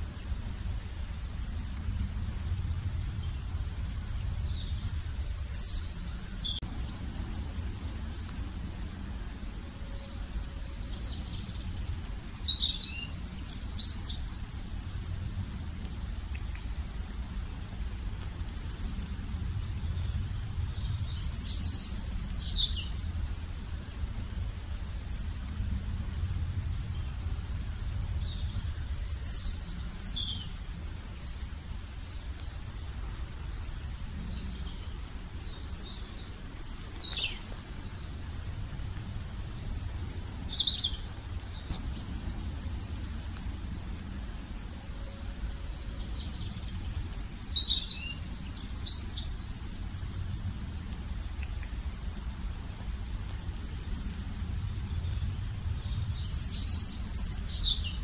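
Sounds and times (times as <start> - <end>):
songbirds chirping: 0.0 - 58.0
steady low rumble: 0.0 - 58.0.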